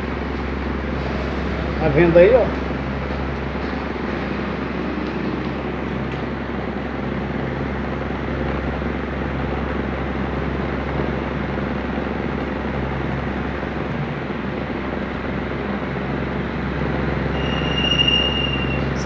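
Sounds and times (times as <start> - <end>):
fan blades rushing air: 0.0 - 19.0
low motor hum: 0.0 - 19.0.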